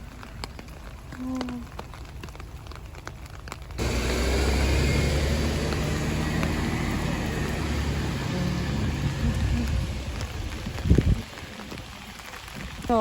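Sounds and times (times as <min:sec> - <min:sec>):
loud outdoor rumbling: 0:00.0 - 0:13.0
raindrops tapping: 0:00.0 - 0:13.0.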